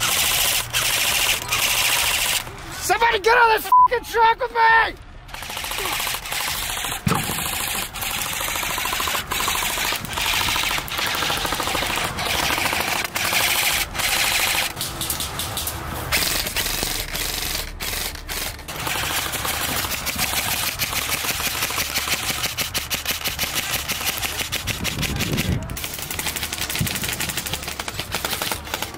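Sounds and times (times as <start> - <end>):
airsoft rifles full-auto bursts: 0.0 - 2.5, 5.3 - 15.4, 16.1 - 28.9.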